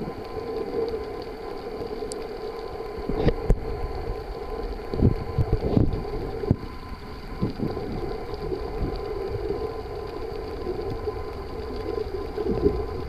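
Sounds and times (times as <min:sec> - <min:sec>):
underwater mechanical hum: 0:00.0 - 0:13.0.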